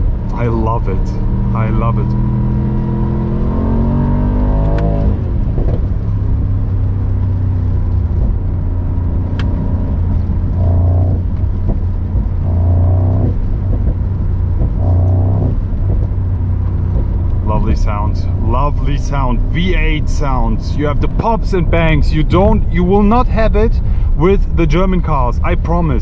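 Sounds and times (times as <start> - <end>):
car engine accelerating: 0.0 - 26.0
exhaust pops: 0.0 - 26.0.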